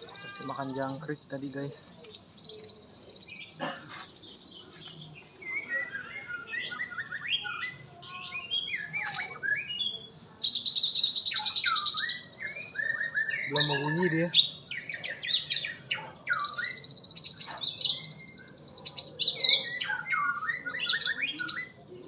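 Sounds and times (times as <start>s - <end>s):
bird whistles and chirps: 2.0s - 21.9s.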